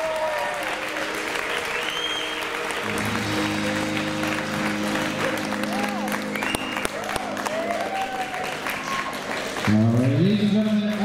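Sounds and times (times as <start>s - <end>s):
guests applauding: 0.0s - 11.0s
music: 0.6s - 11.0s.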